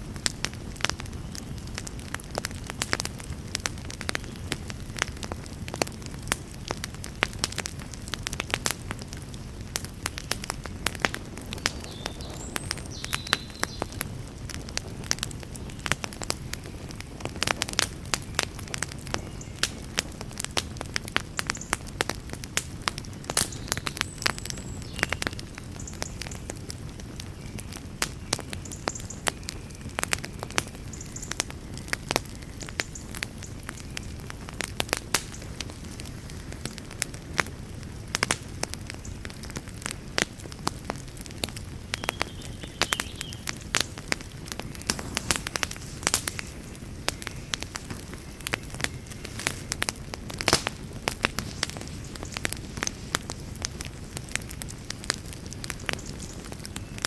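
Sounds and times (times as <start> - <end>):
wood campfire crackling: 0.0 - 57.0.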